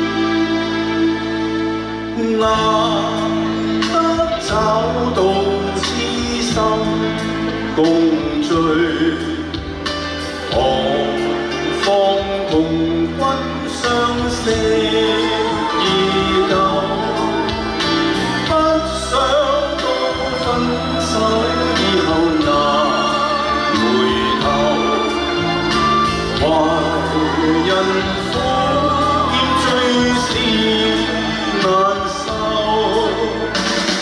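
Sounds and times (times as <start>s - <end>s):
backing music: 0.0s - 34.0s
man singing slow song: 1.8s - 34.0s.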